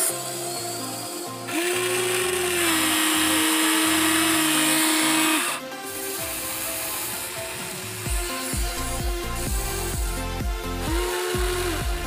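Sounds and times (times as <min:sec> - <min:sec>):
background music: 0:00.0 - 0:12.0
electric motors whining: 0:00.0 - 0:12.0.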